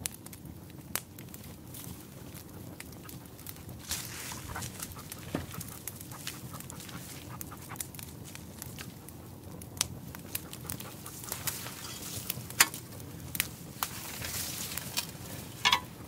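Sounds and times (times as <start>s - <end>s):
dry brush and twigs crackling: 1.2s - 16.0s.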